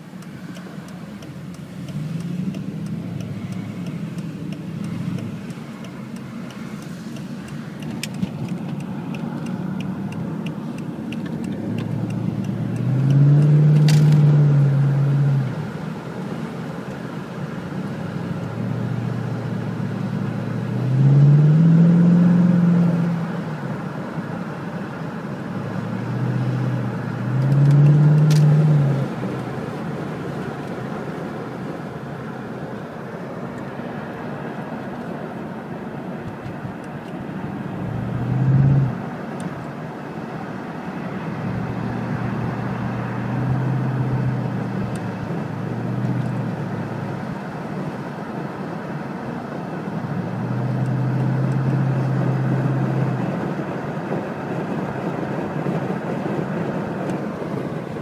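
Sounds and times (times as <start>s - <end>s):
car engine accelerating: 0.0s - 58.0s
road and tyre noise: 0.0s - 58.0s.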